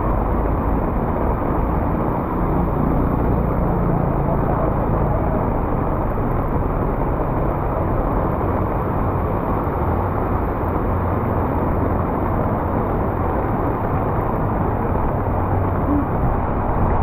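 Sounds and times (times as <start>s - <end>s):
heavy rain: 0.0s - 17.0s
low engine hum: 0.0s - 17.0s
passing motor traffic: 0.0s - 17.0s.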